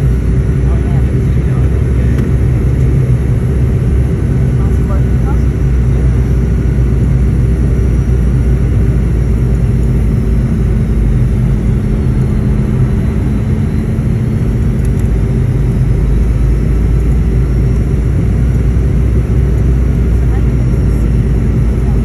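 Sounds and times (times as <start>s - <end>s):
airliner engine rumble: 0.0s - 22.0s
steady cabin hum: 0.0s - 22.0s.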